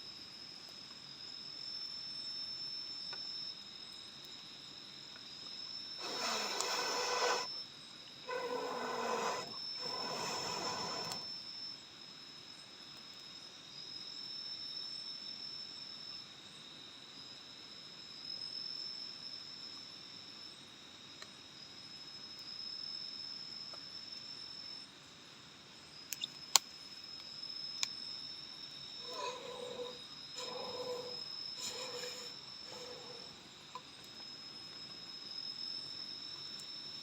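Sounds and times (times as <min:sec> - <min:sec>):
insects trilling: 0:00.0 - 0:37.0.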